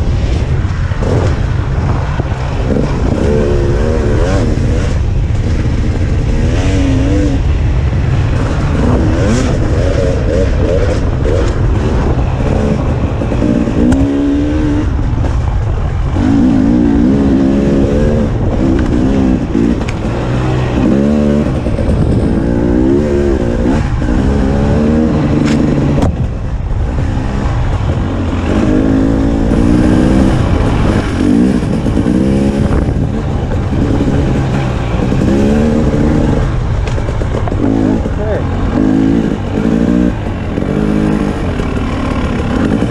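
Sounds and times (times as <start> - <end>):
dirt bike engine revving: 0.4 - 42.9.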